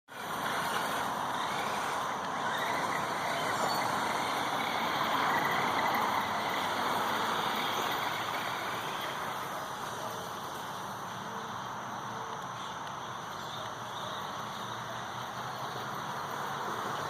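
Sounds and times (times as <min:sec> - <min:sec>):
toy truck drivetrain whirring: 0:00.1 - 0:17.0.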